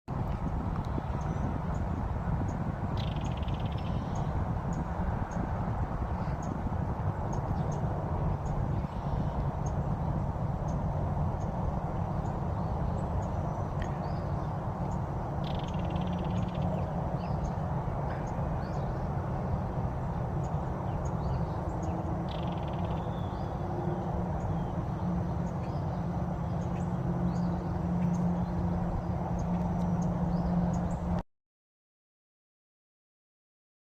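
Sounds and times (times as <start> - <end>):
steady low rumble: 0.1 - 31.2
small birds chirping: 0.4 - 23.6, 24.3 - 31.1.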